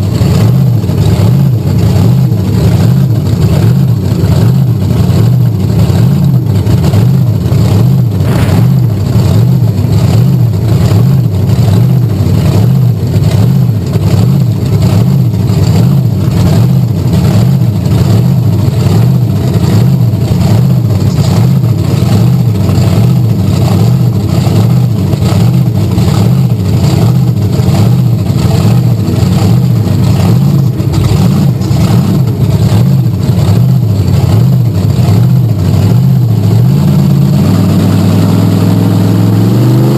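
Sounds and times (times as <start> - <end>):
monster truck engine running: 0.0 - 39.9.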